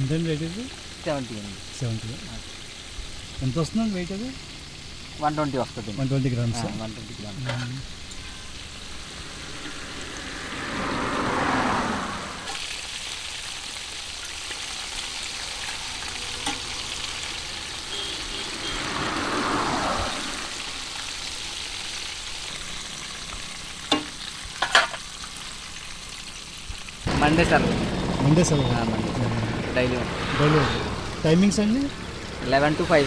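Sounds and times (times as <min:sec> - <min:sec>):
oil sizzling deep-frying: 0:00.0 - 0:27.3, 0:29.8 - 0:33.0
vehicles passing: 0:00.0 - 0:33.0.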